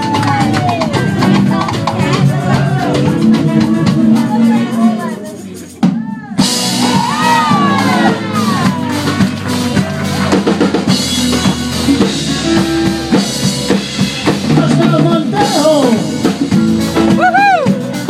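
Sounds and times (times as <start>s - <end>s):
congas: 0.0s - 18.0s
drum kit: 0.0s - 18.0s
electric bass line: 0.0s - 18.0s.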